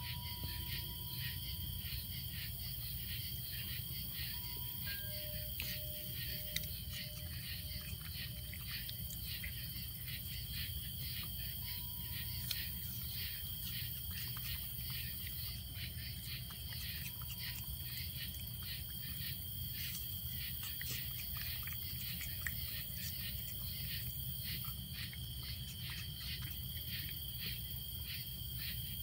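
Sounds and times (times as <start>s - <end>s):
insects chirping: 0.0s - 29.0s
raccoon chewing: 0.0s - 29.0s.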